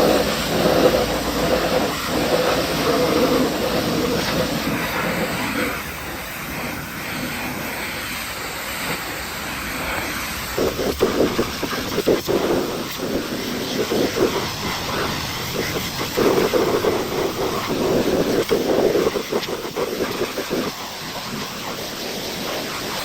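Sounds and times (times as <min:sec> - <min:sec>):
high-pressure water spray hissing: 0:00.0 - 0:23.0.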